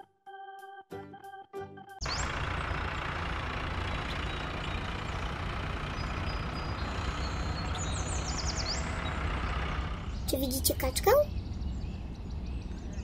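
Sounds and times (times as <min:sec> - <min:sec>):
tractor engine running: 0:02.0 - 0:12.9.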